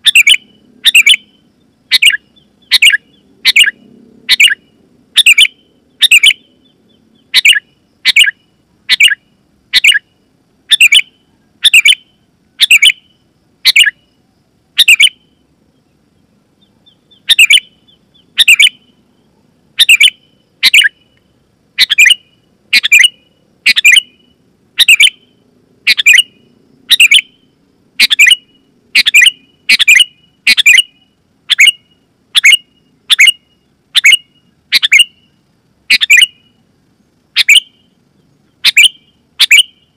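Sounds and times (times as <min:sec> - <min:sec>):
bulbul calling: 0:00.0 - 0:14.2, 0:14.8 - 0:15.4, 0:16.6 - 0:36.6, 0:37.3 - 0:39.9.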